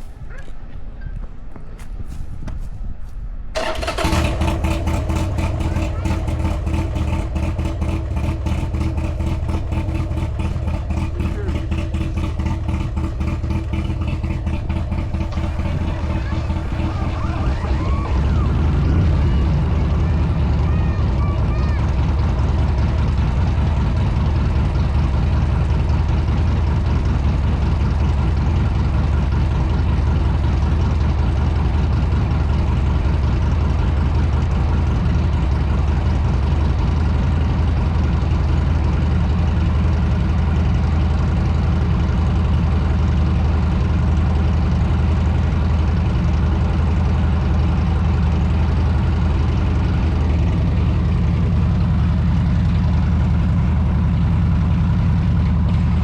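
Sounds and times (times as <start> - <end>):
motorcycle engine running: 3.5 - 56.0.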